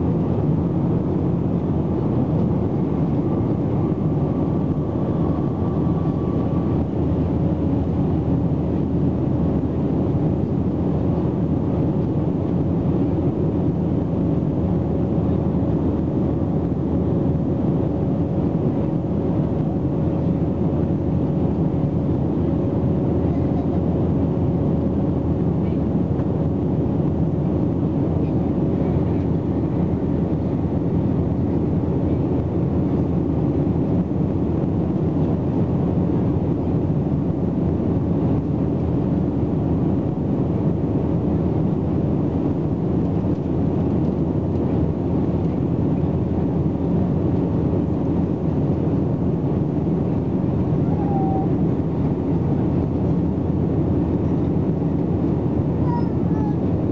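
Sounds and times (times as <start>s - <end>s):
jet engine and airflow rush: 0.0s - 56.9s.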